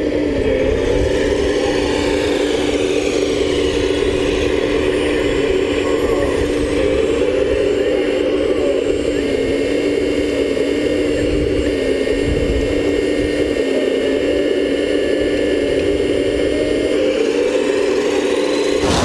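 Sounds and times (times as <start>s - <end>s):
model vehicle motor hum: 0.0s - 19.0s.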